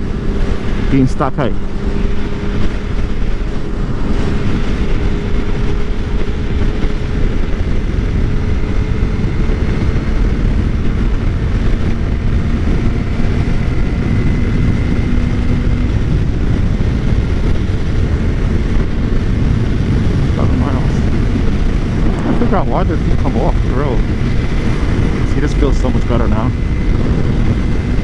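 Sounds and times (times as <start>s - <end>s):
motorcycle engine running steadily: 0.0s - 28.0s
wind rush on microphone: 0.0s - 28.0s.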